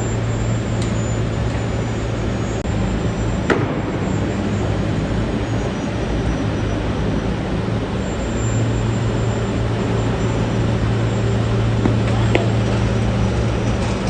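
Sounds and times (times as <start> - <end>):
dump truck engine drone: 0.0 - 14.0.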